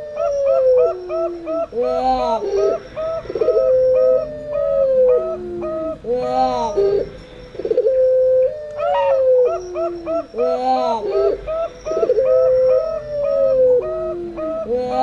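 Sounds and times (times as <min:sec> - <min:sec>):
dove long drawn-out coo: 0:00.0 - 0:15.0
zebra doves trilled coos: 0:00.0 - 0:15.0.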